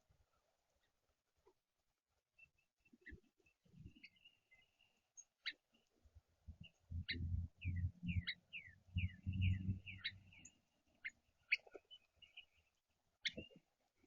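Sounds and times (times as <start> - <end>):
small songbirds chirping: 0.2 - 14.0.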